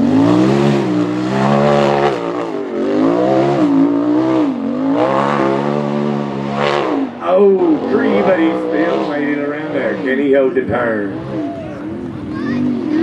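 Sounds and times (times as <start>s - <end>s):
buggy engine revving hard: 0.0s - 13.0s.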